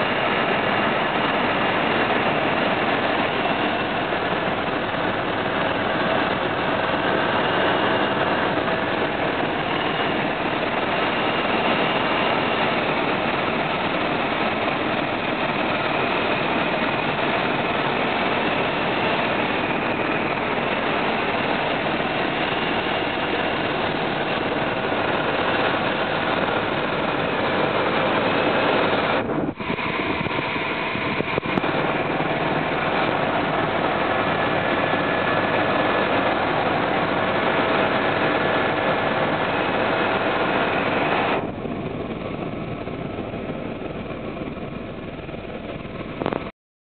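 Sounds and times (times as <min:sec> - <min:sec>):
helicopter engine and rotor noise: 0:00.0 - 0:46.5.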